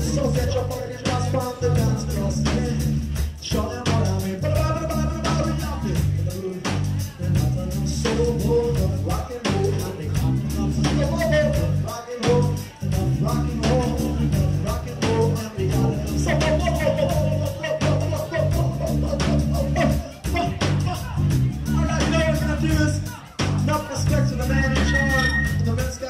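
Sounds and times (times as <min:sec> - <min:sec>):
person singing: 0:00.0 - 0:26.0
steady drum beat: 0:00.0 - 0:26.0.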